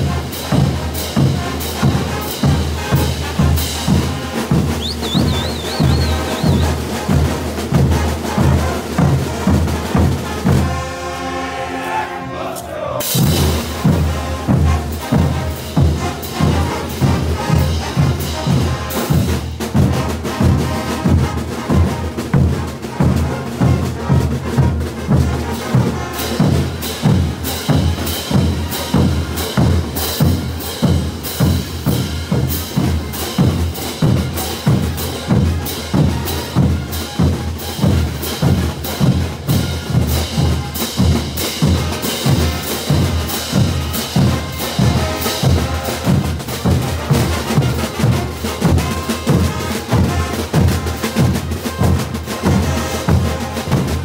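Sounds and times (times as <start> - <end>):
bass drums: 0.0 - 10.8, 13.1 - 54.0
snare drums: 0.0 - 54.0.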